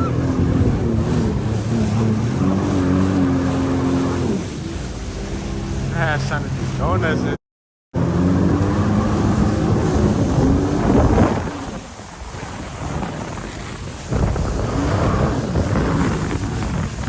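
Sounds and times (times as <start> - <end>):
water rushing: 0.0 - 7.4, 8.0 - 17.0
wind buffeting microphone: 0.0 - 7.4, 8.0 - 17.0
jet ski engine running: 0.0 - 17.0.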